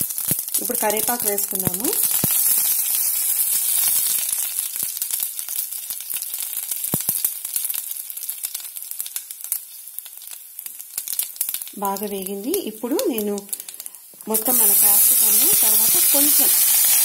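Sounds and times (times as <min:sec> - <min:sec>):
crackling pops: 0:00.0 - 0:17.0
leaves sizzling in hot oil: 0:00.0 - 0:17.0.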